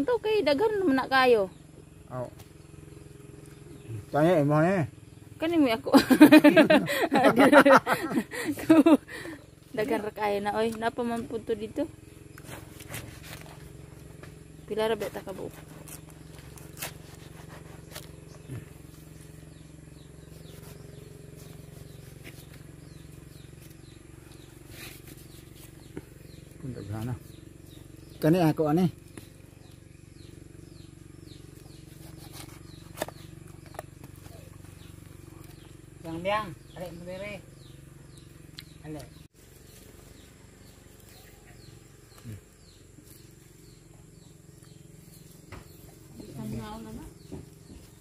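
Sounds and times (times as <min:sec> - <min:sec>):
faint bird chirps: 0:00.0 - 0:48.0
steady low hum: 0:00.0 - 0:48.0.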